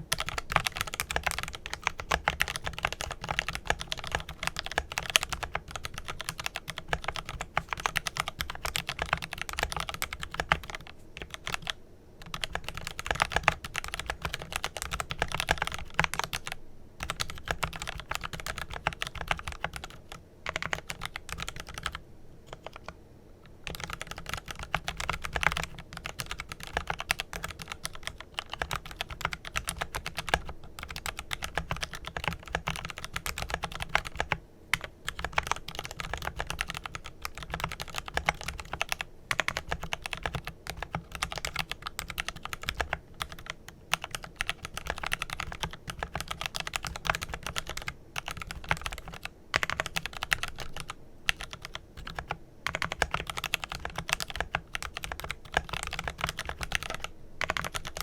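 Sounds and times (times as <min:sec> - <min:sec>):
fast mechanical keyboard typing: 0:00.0 - 0:23.0, 0:23.6 - 0:58.0.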